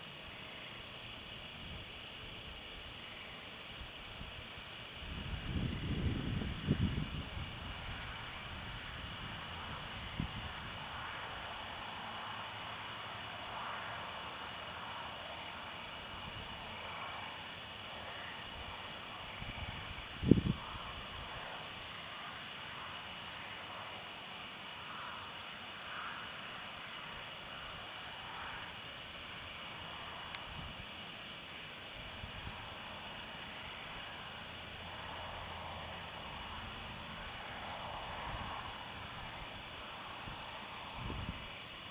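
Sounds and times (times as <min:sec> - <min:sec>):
night insects trilling: 0:00.0 - 0:41.9.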